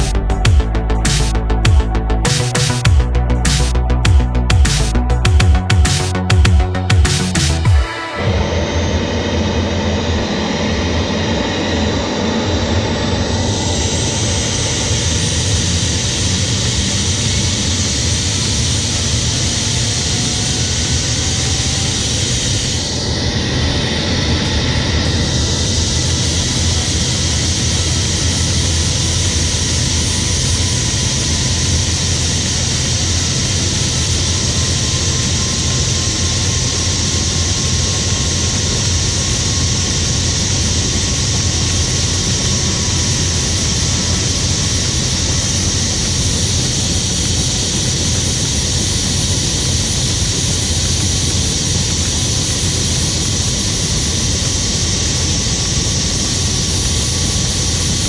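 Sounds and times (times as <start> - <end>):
helicopter engine and rotor noise: 0.0 - 58.0.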